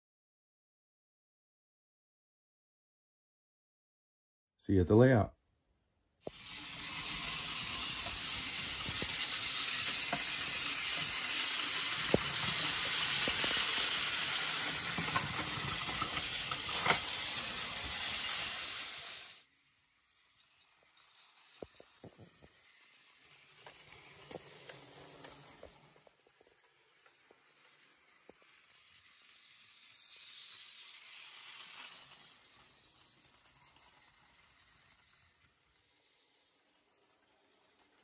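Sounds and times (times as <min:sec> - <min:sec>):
toy train whirring on track: 0:06.2 - 0:38.0.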